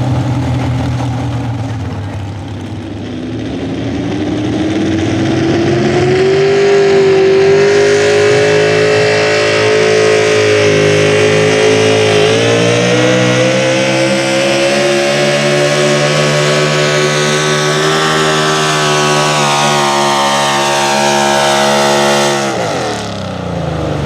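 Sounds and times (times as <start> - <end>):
truck engine revving under load: 0.0 - 24.0.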